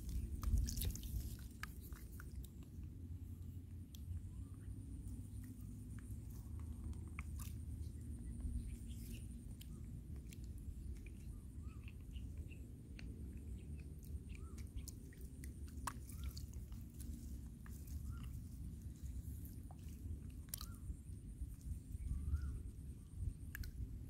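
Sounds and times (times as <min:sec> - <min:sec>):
monkey foraging in water: 0:00.0 - 0:24.0
steady low rumble: 0:00.0 - 0:24.0.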